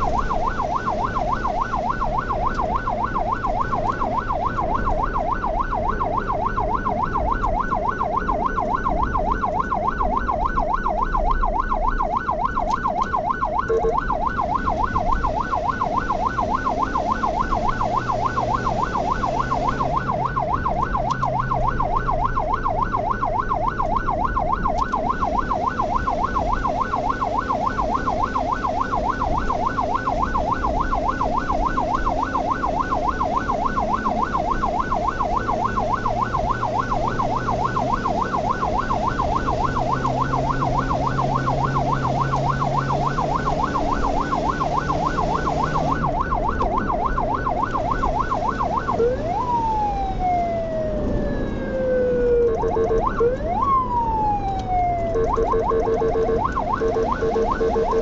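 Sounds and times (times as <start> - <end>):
ambulance siren yelping: 0.0 - 58.0
engine and road rumble: 0.0 - 58.0.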